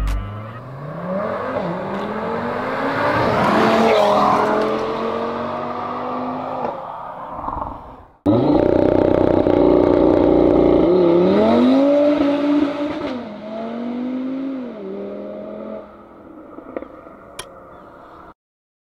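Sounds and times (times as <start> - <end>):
car engine accelerating: 0.0 - 17.8.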